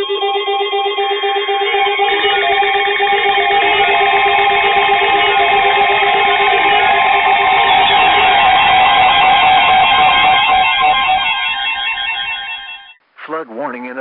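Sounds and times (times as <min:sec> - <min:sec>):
electronic alert tones: 0:00.0 - 0:13.0
warning alarm tone: 0:00.0 - 0:13.0.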